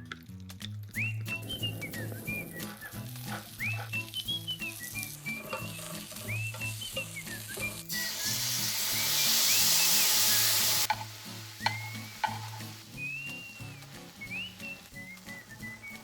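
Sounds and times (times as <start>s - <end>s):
whistled melody music: 0.0s - 16.0s
food sizzling in a pan: 1.3s - 16.0s.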